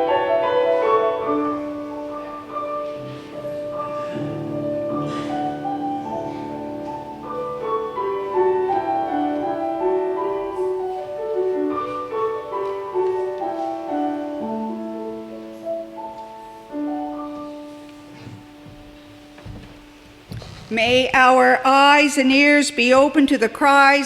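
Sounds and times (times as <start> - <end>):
slow piano melody: 0.0 - 21.3.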